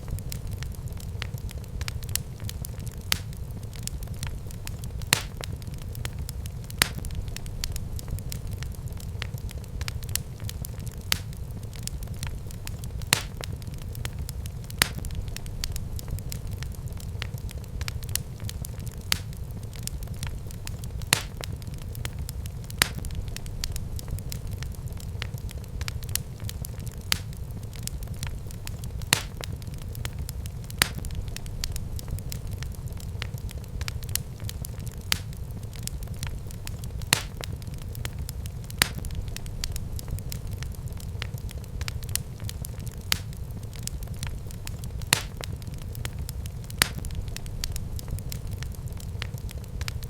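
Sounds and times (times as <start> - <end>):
fireplace fire crackling: 0.0 - 50.0
loud fire pops: 0.0 - 50.0
low rumble of flames: 0.0 - 50.0.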